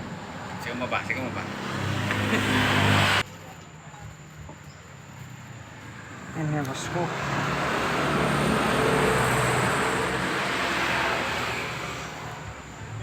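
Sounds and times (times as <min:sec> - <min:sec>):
vehicle passing by: 0:00.0 - 0:03.3, 0:05.1 - 0:13.0.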